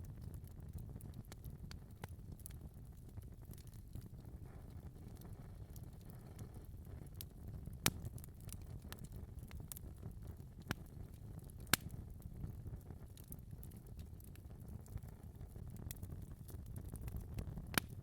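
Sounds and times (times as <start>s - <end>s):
flames rumbling: 0.0s - 18.0s
wood fire crackling and popping: 0.0s - 18.0s.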